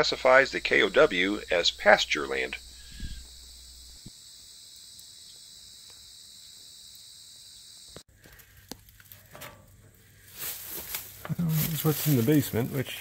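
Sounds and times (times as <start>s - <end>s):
insects chorus: 0.0s - 8.7s, 9.9s - 13.0s.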